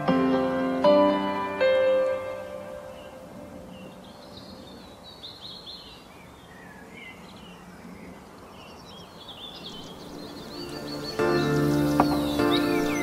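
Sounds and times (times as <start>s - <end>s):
outdoor background hiss: 0.0s - 13.0s
small birds chirping: 2.1s - 13.0s.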